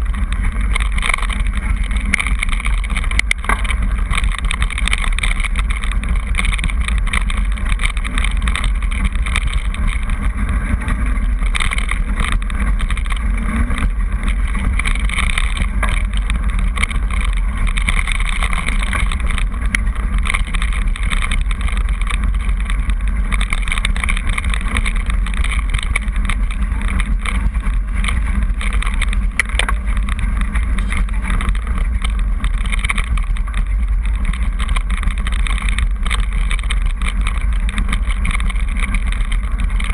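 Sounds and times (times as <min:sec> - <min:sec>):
bike knocking and rattling: 0:00.0 - 0:39.9
tyres crunching on gravel: 0:00.0 - 0:39.9
wind noise on microphone: 0:00.0 - 0:39.9.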